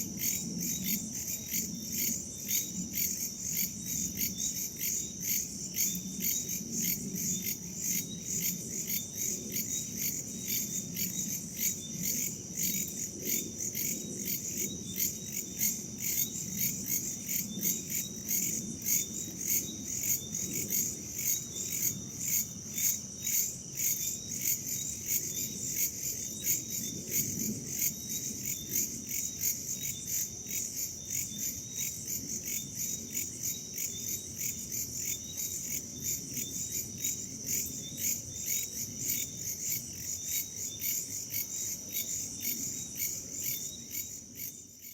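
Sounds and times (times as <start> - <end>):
crickets and insects chirping: 0.0 - 44.9.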